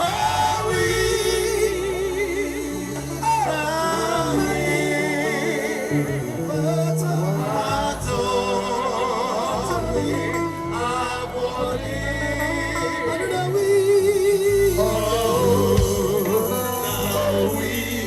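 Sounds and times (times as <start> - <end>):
instrumental accompaniment with bass: 0.0 - 18.0
person singing with vibrato: 0.0 - 18.0.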